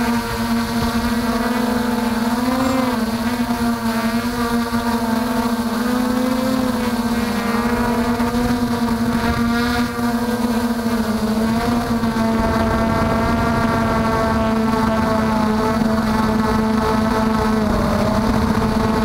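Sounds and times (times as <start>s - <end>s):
quadcopter motors humming: 0.0s - 19.0s
wind noise: 0.0s - 19.0s.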